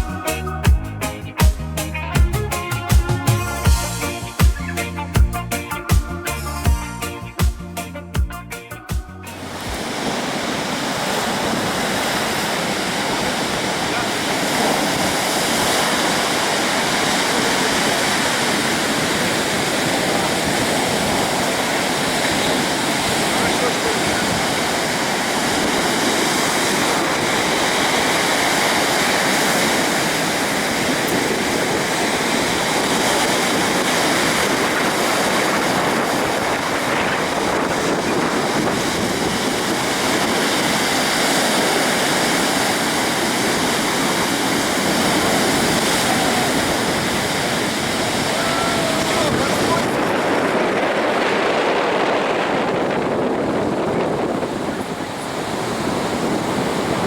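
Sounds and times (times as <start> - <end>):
waterfall rushing: 9.3 - 57.0.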